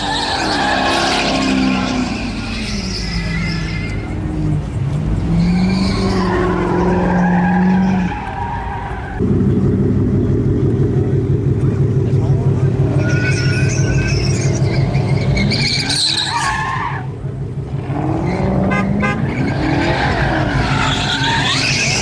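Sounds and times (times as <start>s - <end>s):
tires squealing: 0.0s - 22.0s
truck engine revving: 0.0s - 22.0s.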